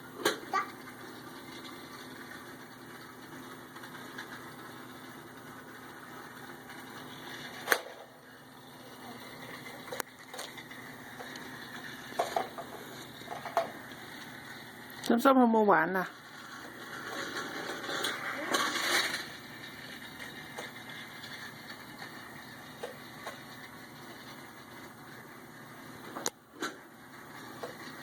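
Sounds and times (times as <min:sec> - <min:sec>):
toy train motor whirring: 0:00.2 - 0:15.1, 0:16.0 - 0:28.0.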